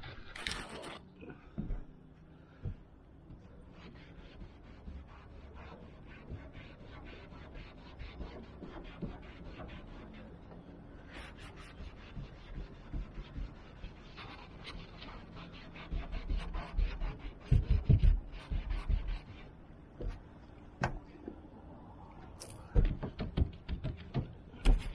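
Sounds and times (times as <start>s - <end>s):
cloth scrubbing a van roof: 0.0s - 20.4s.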